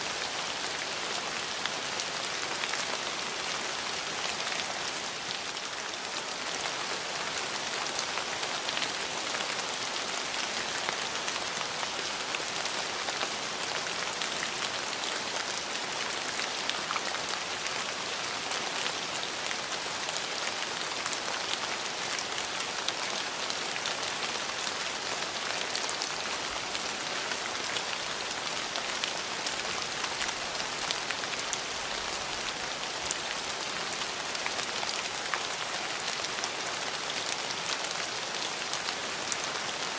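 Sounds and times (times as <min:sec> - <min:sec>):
rain falling on hard surfaces: 0:00.0 - 0:39.9.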